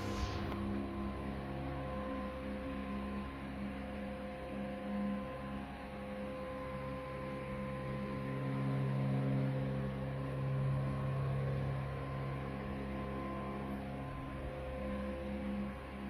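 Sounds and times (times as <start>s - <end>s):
soft sustained background music: 0.0s - 16.0s.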